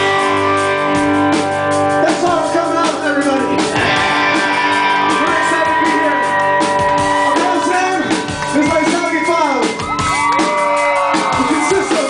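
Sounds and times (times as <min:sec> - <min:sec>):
drums: 0:00.0 - 0:12.0
electric guitar: 0:00.0 - 0:12.0.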